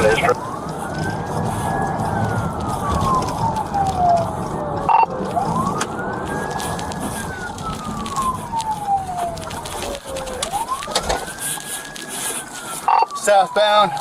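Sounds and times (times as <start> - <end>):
low rumble of moving car: 0.0 - 14.0
police siren wailing: 0.0 - 14.0.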